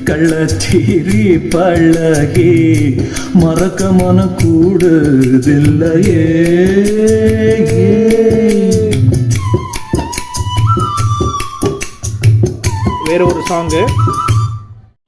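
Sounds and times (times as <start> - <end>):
person singing film song: 0.0 - 14.2
high held instrumental line: 0.0 - 14.8
percussion beats: 0.0 - 14.9.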